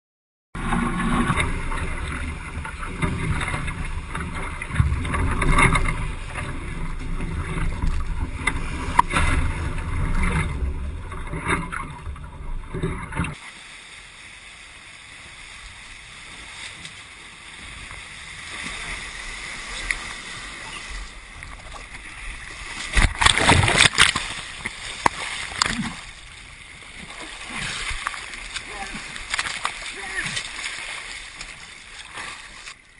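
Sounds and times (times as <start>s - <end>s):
water rushing around boat hulls: 0.6s - 32.9s.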